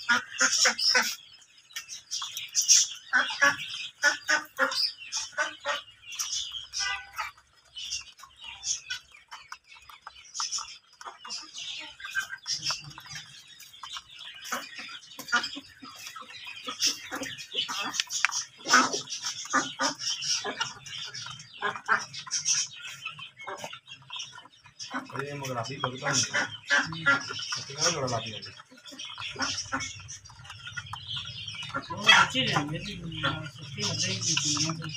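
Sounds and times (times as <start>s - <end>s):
fowl clucking and chirping: 0.0s - 34.9s.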